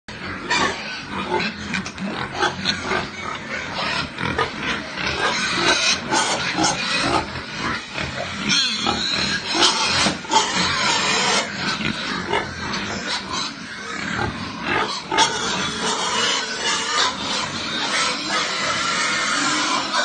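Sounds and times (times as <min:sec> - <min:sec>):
piglets calling: 0:00.1 - 0:20.0.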